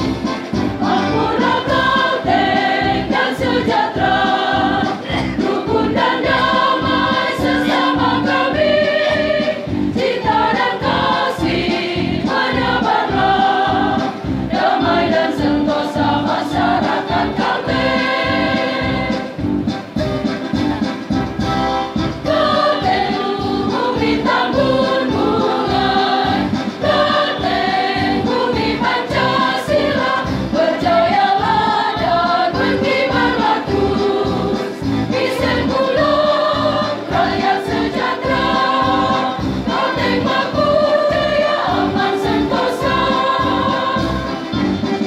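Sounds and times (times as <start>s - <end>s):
women's choir singing march: 0.0s - 20.4s, 22.1s - 45.0s
accompaniment with steady beat: 0.0s - 45.0s.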